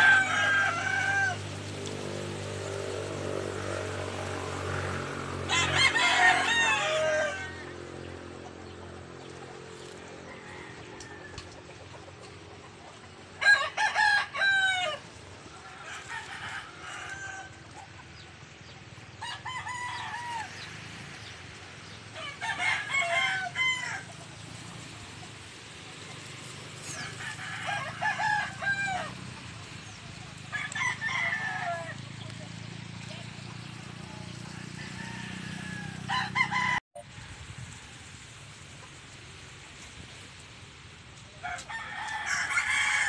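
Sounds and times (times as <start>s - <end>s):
roosters crowing: 0.0s - 36.8s, 41.3s - 43.0s.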